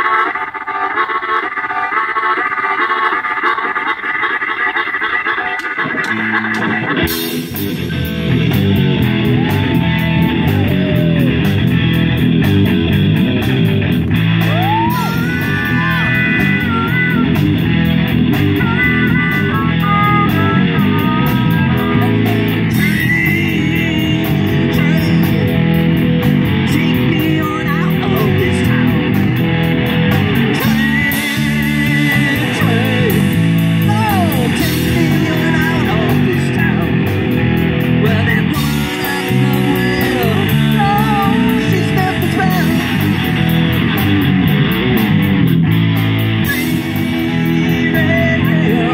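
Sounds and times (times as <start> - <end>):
harmonica notes bending: 0.0 - 48.9
rock band playing: 0.0 - 48.9.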